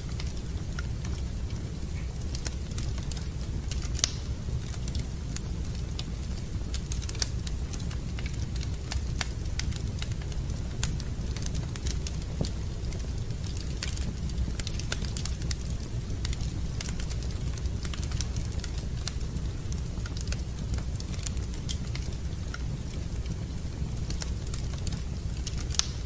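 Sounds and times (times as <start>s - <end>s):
low rumble of fire: 0.0s - 26.0s
wood fire crackling: 0.0s - 26.0s.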